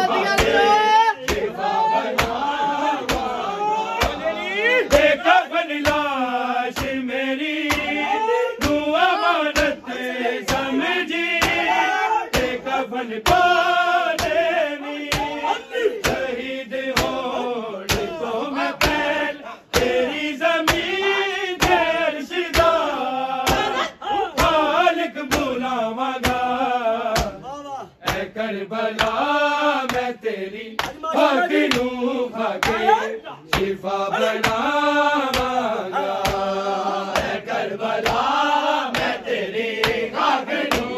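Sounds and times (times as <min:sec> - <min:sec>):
men chanting a lament: 0:00.0 - 0:40.9.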